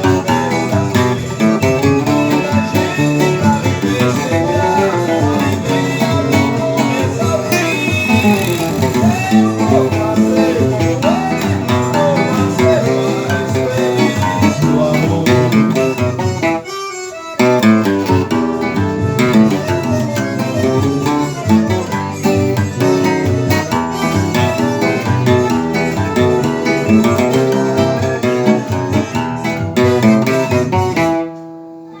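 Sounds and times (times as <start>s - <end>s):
acoustic guitar tune: 0.0s - 32.0s.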